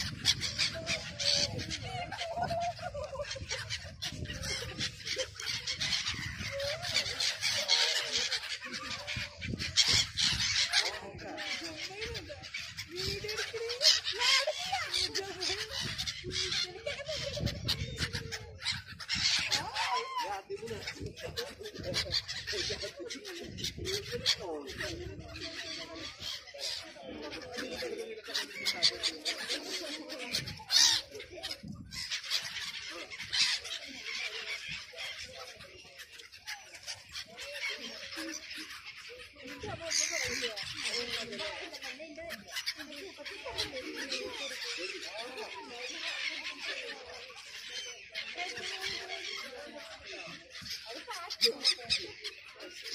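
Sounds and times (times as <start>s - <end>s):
gulls squawking: 0.0s - 52.9s
people's voices: 0.0s - 52.9s.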